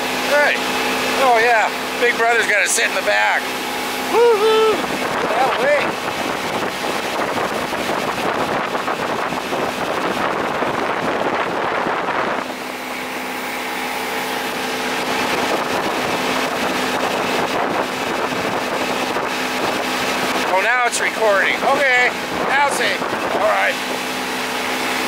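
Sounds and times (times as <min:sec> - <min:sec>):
outboard motor running: 0:00.0 - 0:25.0
water rushing: 0:00.0 - 0:25.0
wind on microphone: 0:03.9 - 0:20.6, 0:21.2 - 0:25.0.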